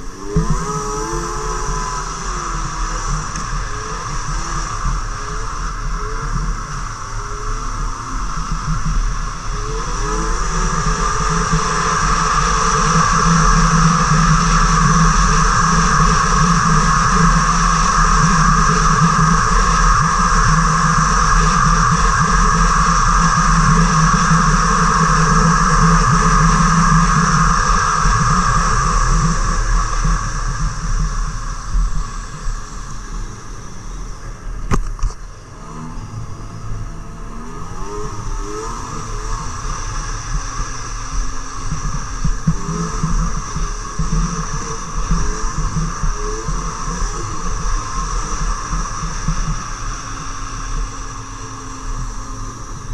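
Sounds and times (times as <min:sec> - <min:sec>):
snowmobile engine drone: 0:00.0 - 0:52.9.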